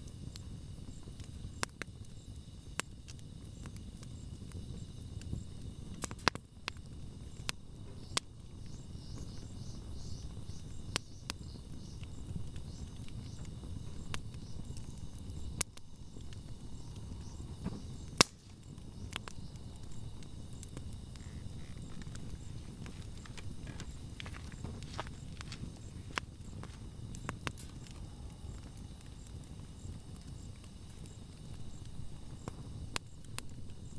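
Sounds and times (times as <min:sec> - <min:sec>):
campfire low rumble: 0:00.0 - 0:33.9
fire crackles and pops: 0:00.0 - 0:33.9.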